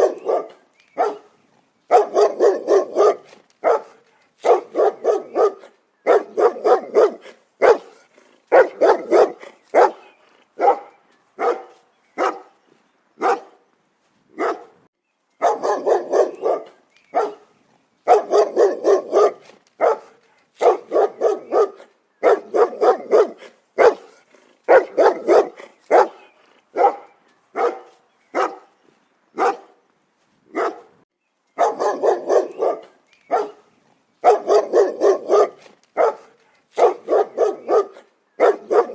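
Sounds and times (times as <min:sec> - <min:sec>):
dog barking loudly: 0:00.0 - 0:12.6, 0:13.2 - 0:13.6, 0:14.4 - 0:14.8, 0:15.4 - 0:28.7, 0:29.4 - 0:29.8, 0:30.5 - 0:31.0, 0:31.6 - 0:38.9.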